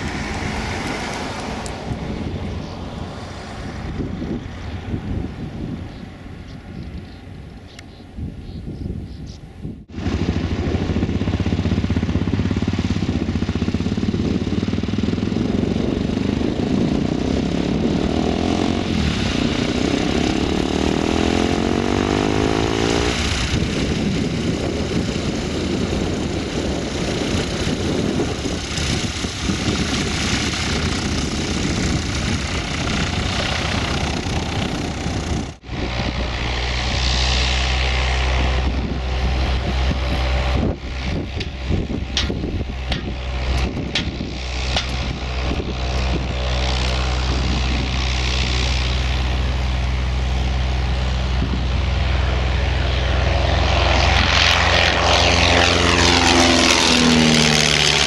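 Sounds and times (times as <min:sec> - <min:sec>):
plane engine and propeller passing: 0:00.0 - 0:58.0
plane engine deep drone: 0:00.0 - 0:58.0.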